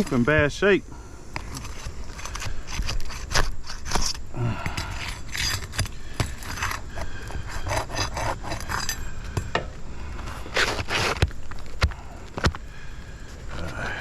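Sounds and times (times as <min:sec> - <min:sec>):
shingle scraping and rubbing: 0:01.3 - 0:14.0.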